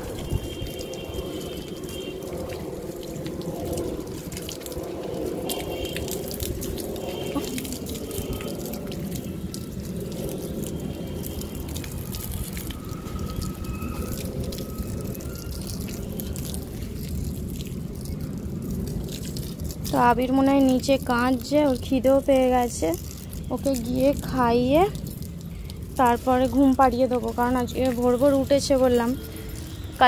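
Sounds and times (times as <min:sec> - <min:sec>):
water from hose splashing: 0:00.0 - 0:30.0.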